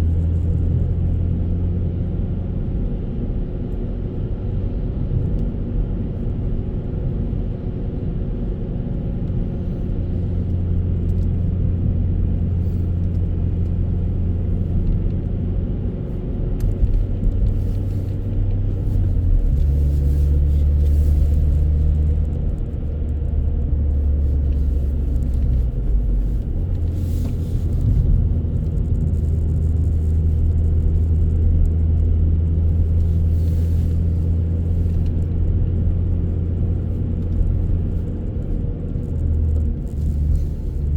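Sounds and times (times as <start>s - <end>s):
car engine rumble: 0.0s - 40.9s
road noise: 0.0s - 40.9s.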